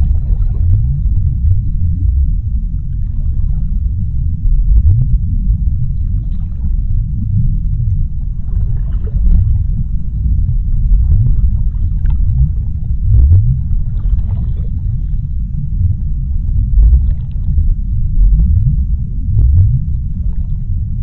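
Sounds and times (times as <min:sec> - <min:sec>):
deep underwater rumble: 0:00.0 - 0:21.0.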